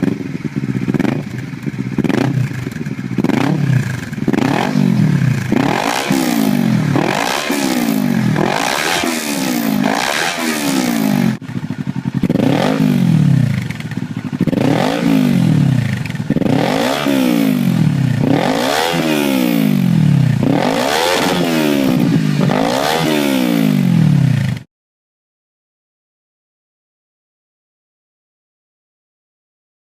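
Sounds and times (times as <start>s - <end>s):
motorcycle engine revving: 0.0s - 24.7s.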